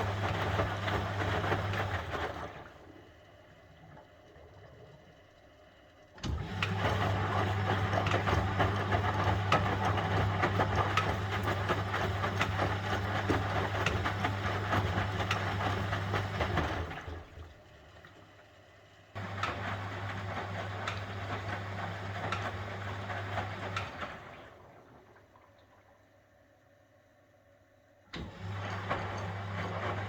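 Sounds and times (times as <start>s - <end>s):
laundry and water sloshing: 0.0s - 5.1s, 6.2s - 18.4s, 19.2s - 26.2s, 28.1s - 30.0s
washing machine motor hum: 0.0s - 30.0s.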